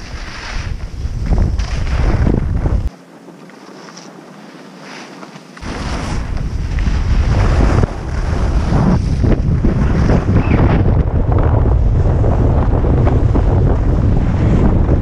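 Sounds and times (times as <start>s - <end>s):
wind buffeting microphone: 0.0s - 3.4s, 5.6s - 15.0s.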